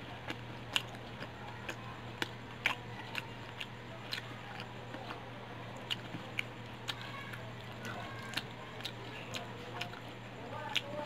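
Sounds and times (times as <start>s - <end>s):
chewing fried chicken: 0.0s - 11.0s
low steady hum: 0.0s - 11.0s.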